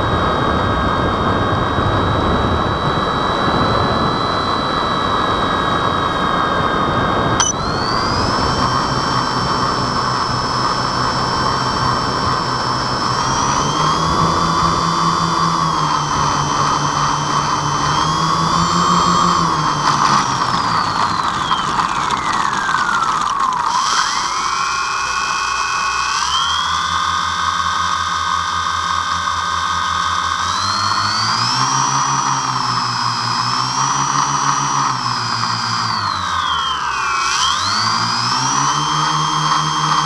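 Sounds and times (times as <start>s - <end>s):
model airplane motors whining: 0.0s - 40.0s.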